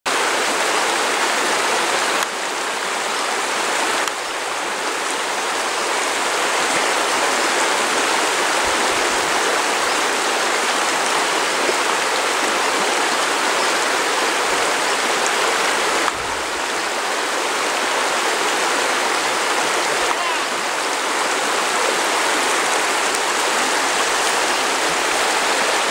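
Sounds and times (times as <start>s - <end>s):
river running over stones: 0.1s - 25.9s.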